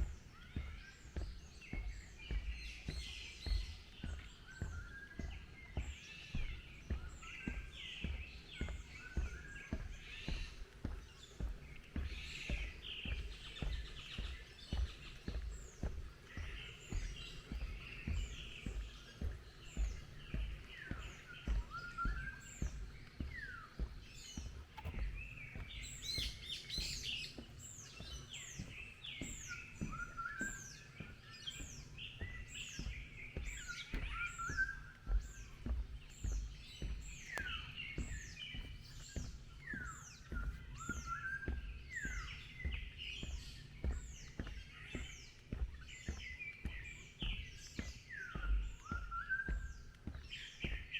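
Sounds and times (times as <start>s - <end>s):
birds chirping and singing: 0.0s - 50.9s
low steady thudding: 0.0s - 50.9s.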